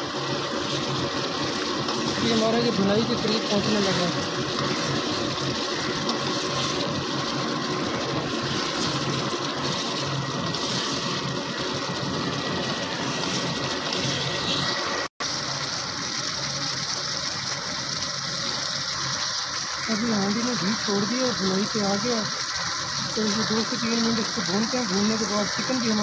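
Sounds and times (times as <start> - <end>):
food sizzling and spattering in oil: 0.0 - 26.0
spatula stirring in a pot: 0.1 - 15.1, 18.6 - 26.0.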